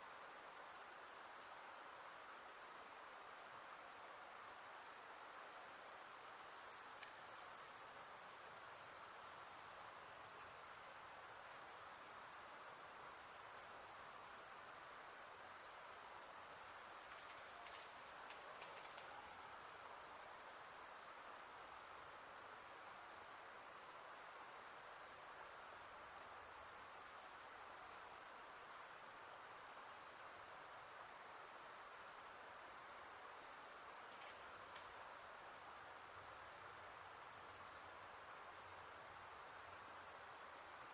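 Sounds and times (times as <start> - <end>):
insects trilling: 0.2 - 40.9.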